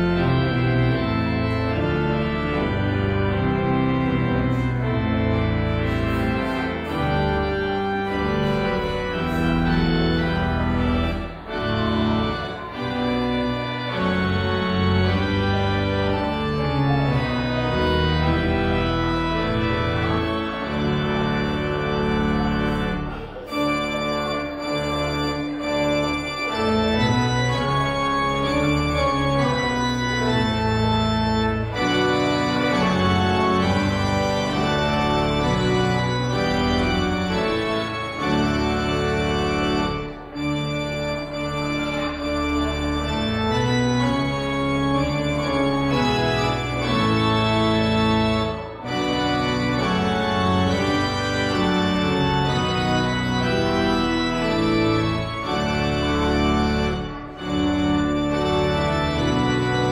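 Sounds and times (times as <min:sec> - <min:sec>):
church pipe organ chords: 0:00.0 - 0:59.9.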